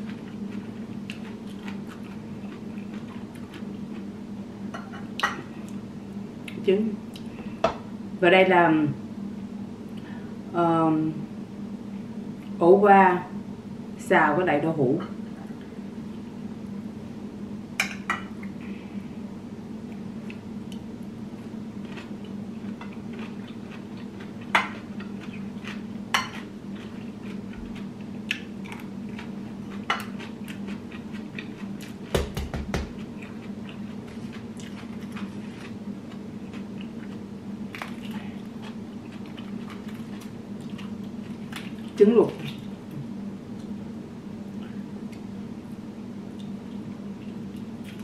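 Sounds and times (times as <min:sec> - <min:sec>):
low room hum: 0:00.0 - 0:48.0.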